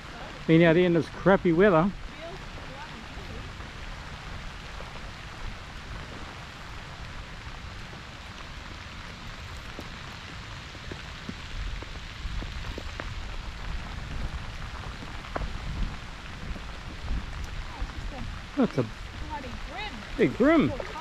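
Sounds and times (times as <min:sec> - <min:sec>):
low rumbles: 0:00.0 - 0:21.0
pouring rain hiss: 0:00.0 - 0:21.0.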